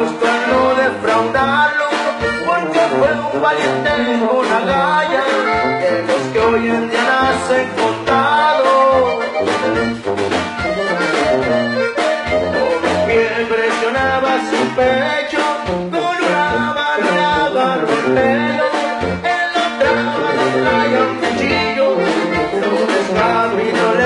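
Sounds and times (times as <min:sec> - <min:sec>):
live band music: 0:00.0 - 0:24.0.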